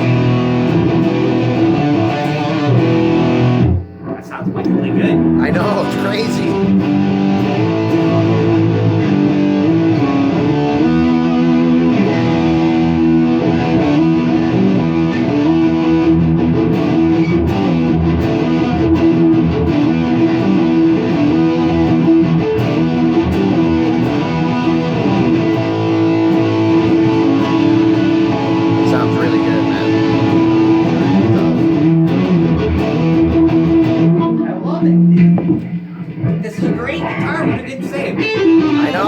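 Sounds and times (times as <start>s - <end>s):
electric guitar through tube amp: 0.0s - 39.0s.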